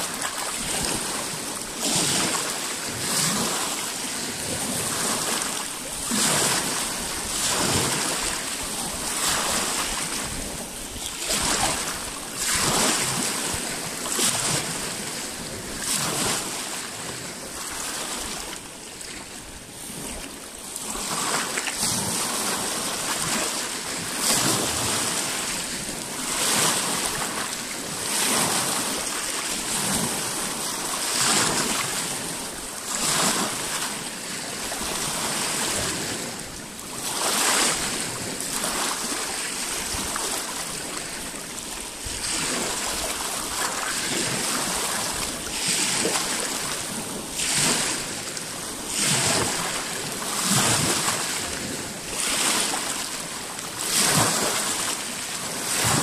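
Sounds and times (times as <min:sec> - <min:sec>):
steady rush of water: 0:00.0 - 0:56.0
waves lapping on rocky shore: 0:00.0 - 0:56.0.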